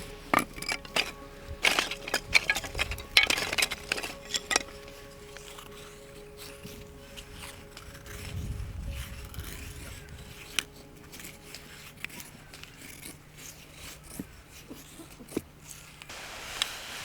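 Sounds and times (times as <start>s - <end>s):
knife scraping wood: 0.0s - 16.1s.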